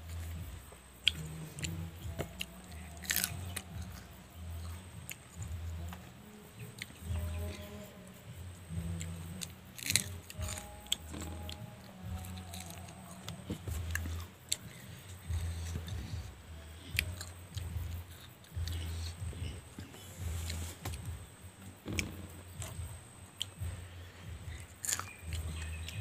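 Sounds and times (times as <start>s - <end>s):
crunching raw chillies: 0.0s - 8.0s, 8.8s - 26.0s.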